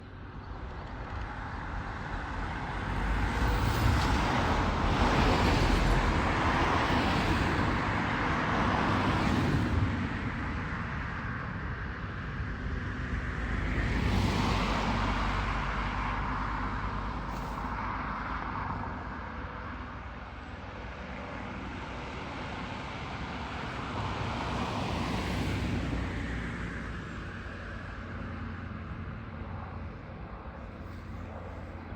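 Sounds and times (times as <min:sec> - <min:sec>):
vehicle engine noise: 0:00.0 - 0:31.9.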